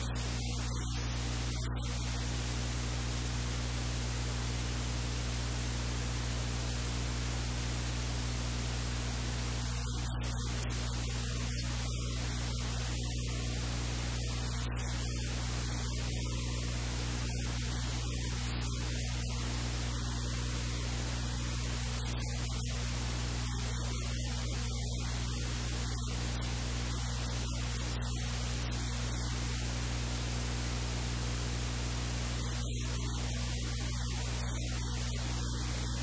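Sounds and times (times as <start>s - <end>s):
low electrical hum: 0.0s - 36.0s
static hiss: 0.0s - 36.0s.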